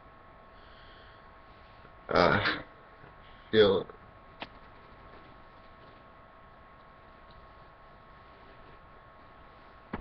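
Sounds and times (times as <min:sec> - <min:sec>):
low hiss with steady hum: 0:00.0 - 0:10.0.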